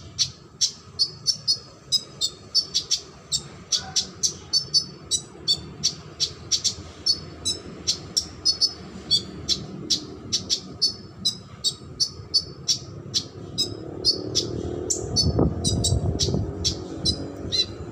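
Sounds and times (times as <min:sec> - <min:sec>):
songbird chirping: 0:00.0 - 0:17.9.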